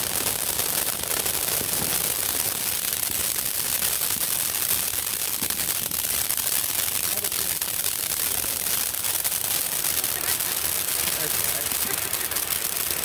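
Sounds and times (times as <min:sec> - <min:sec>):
firework fountain hissing and crackling: 0:00.0 - 0:13.0.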